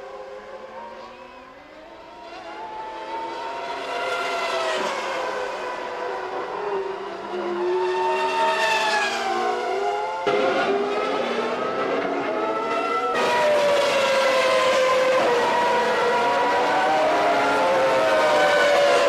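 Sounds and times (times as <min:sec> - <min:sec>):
race cars passing at high revs: 0:00.0 - 0:19.0.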